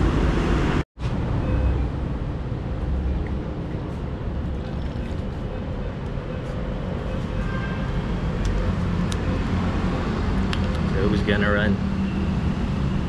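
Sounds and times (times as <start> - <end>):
low rumble of passing vehicles: 0.0 - 13.0.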